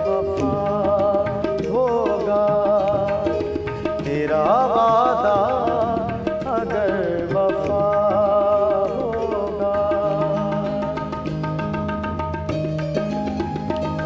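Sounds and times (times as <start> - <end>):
keyboard melody: 0.0 - 14.0
tabla strokes: 0.0 - 14.0.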